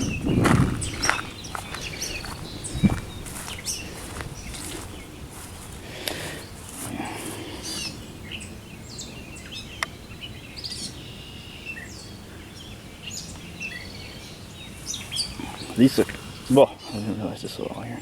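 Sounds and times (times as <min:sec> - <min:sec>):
birds chirping and whistling: 0:00.0 - 0:18.0.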